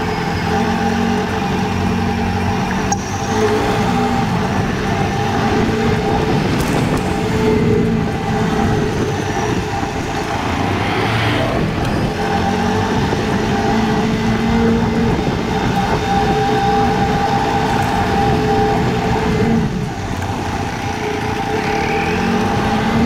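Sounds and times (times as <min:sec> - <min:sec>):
motorcycle engine running: 0:00.0 - 0:23.0
wind noise rushing: 0:03.4 - 0:23.0.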